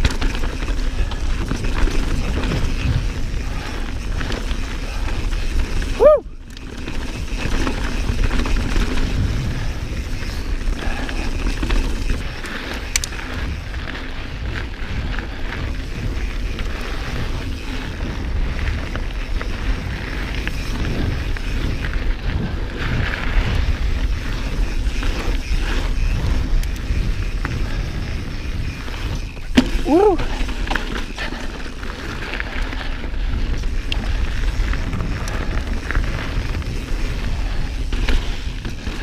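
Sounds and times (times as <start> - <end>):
bike chain and frame rattling: 0.0 - 39.0
bike tyres crunching on dirt: 0.0 - 39.0
wind buffeting microphone: 0.0 - 39.0.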